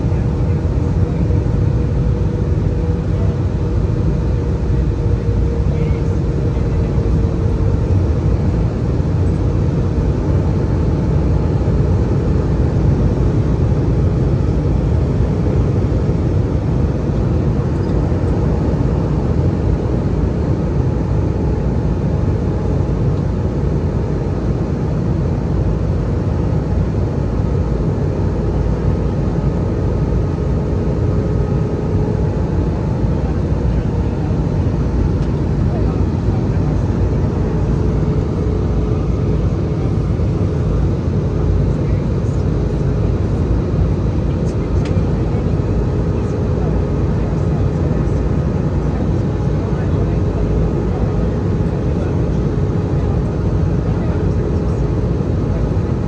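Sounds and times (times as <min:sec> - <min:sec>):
deep roar of jet engines: 0:00.0 - 0:56.0.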